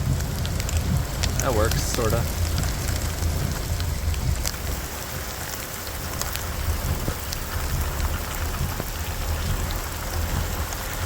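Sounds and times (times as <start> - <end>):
heavy rain hiss: 0.0 - 11.0
low rumble: 0.0 - 11.0
raindrops ticking close by: 0.0 - 11.0.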